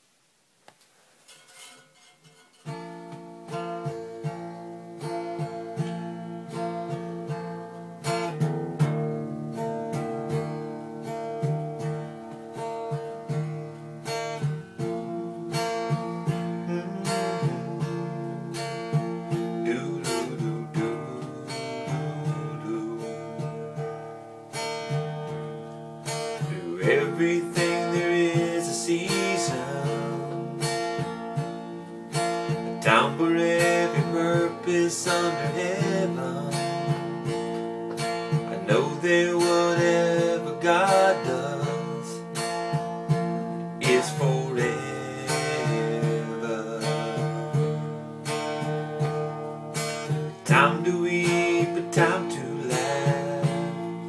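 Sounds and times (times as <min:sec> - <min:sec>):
acoustic guitar strumming: 0:01.2 - 0:54.0.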